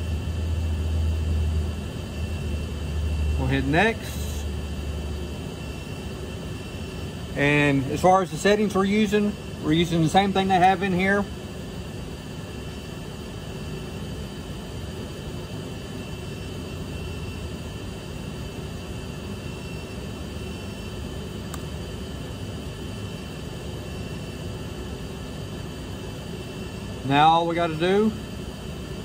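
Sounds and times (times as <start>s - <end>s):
faint high whine: 0.0s - 29.0s
machinery hiss and hum: 0.0s - 29.0s.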